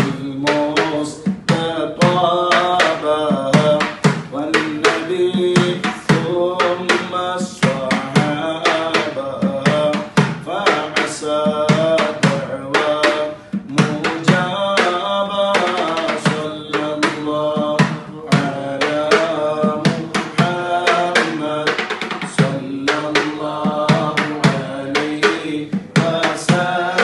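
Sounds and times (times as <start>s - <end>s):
hand drum beating: 0.0s - 27.0s
men singing a devotional song: 0.0s - 27.0s.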